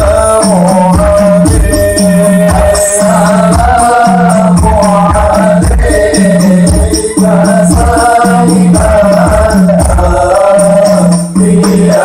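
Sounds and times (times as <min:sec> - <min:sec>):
low drum beat: 0:00.0 - 0:12.0
man chanting through pa system: 0:00.0 - 0:12.0.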